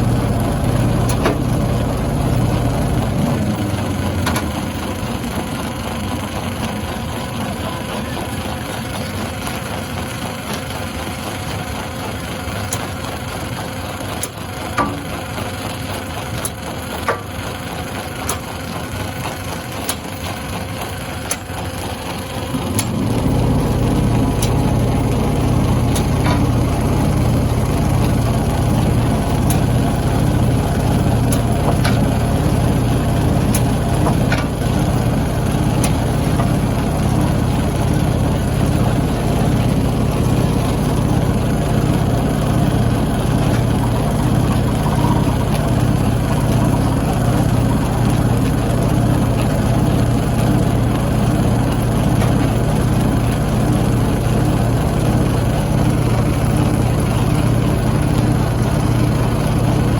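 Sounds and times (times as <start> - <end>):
stone crushing machinery hum: 0.0 - 59.9.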